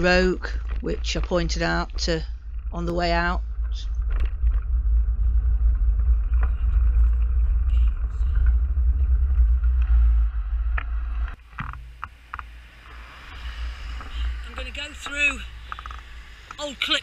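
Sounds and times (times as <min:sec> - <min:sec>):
road noise: 0:00.0 - 0:17.0
wind rumble: 0:00.0 - 0:17.0.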